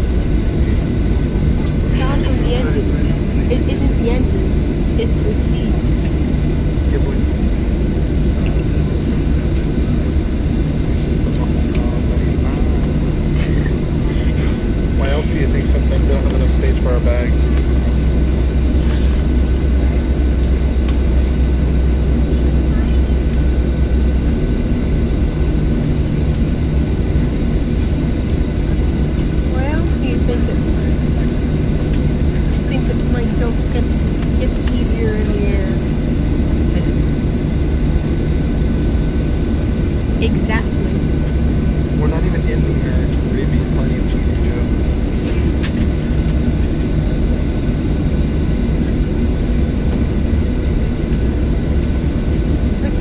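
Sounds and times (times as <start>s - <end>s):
faint steady whine: 0.0s - 53.0s
jet engine rumble in cabin: 0.0s - 53.0s.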